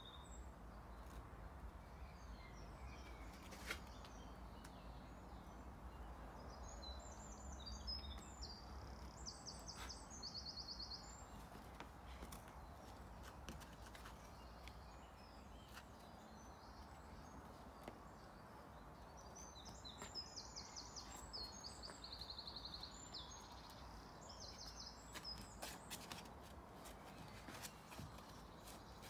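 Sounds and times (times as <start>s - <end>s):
faint outdoor background hiss: 0.0s - 29.0s.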